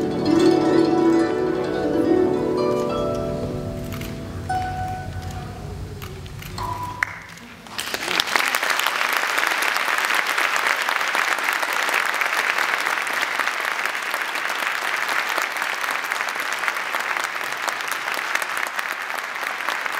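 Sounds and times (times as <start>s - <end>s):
audience applauding: 3.9s - 19.9s.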